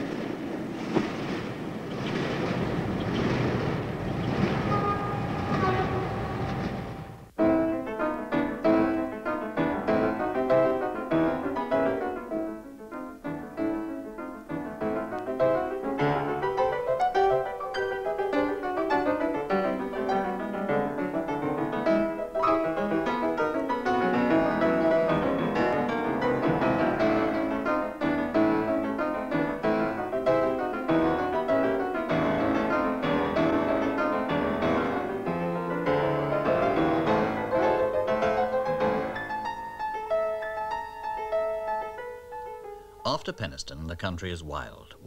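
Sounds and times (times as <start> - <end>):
fast piano music: 2.6 - 43.0.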